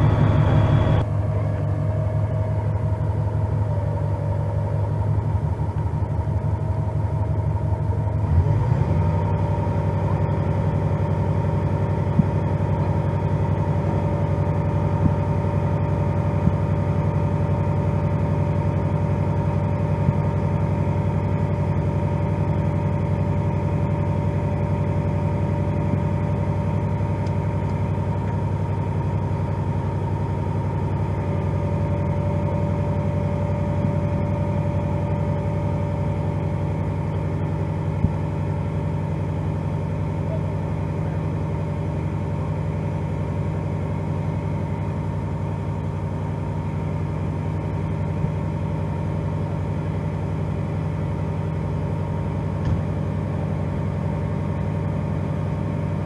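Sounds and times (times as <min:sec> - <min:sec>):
diesel engine running: 0:00.0 - 0:56.0
thin steady whine: 0:00.0 - 0:56.0.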